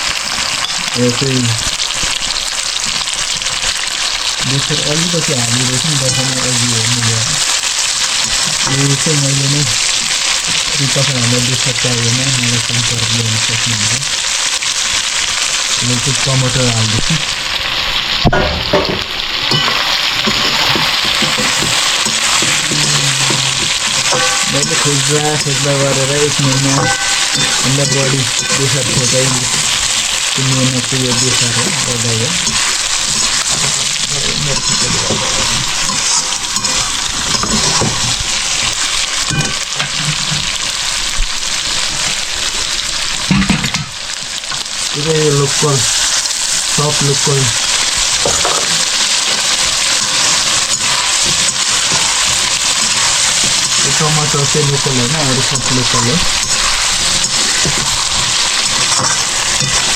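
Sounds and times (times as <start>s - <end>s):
curry sizzling in a pan: 0.0s - 59.9s.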